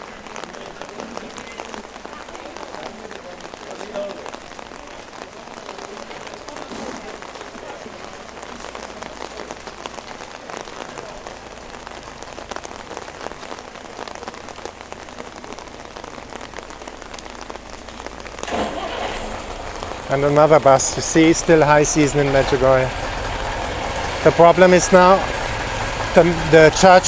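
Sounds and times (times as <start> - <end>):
heavy rain on an umbrella: 0.0 - 27.0.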